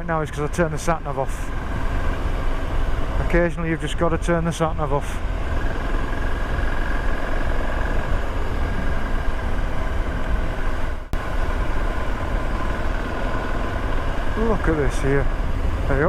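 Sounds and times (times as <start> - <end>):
motorcycle engine cruising: 0.0 - 16.0
wind rumble on microphone: 1.2 - 16.0.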